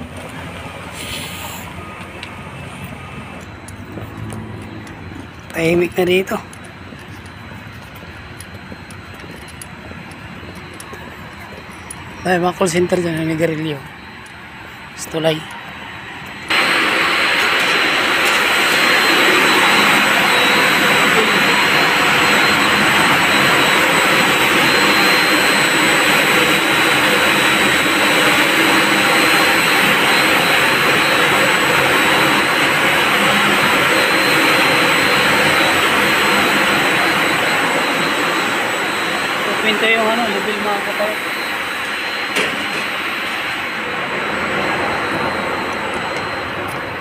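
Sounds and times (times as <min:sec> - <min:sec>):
high-pitched whine: 0:00.0 - 0:47.0
machinery rushing drone: 0:00.0 - 0:47.0.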